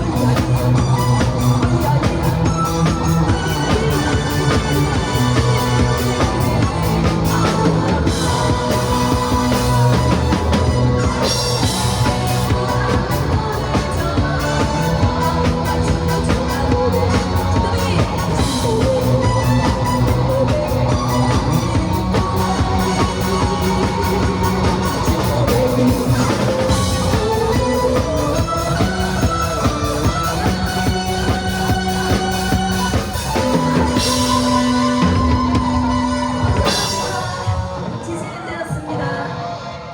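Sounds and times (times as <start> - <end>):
drum kit steady beat: 0.0 - 37.6
rock band playing instrumental: 0.0 - 39.9.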